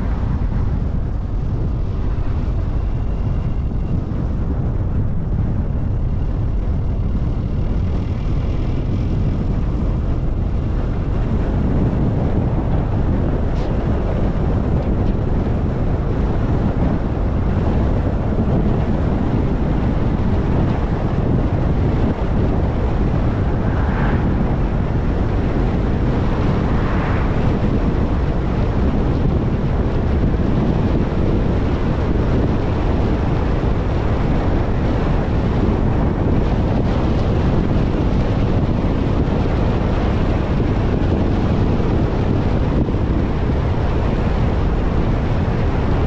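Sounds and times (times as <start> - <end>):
road rumble: 0.0 - 46.0
wind buffeting microphone: 0.0 - 46.0.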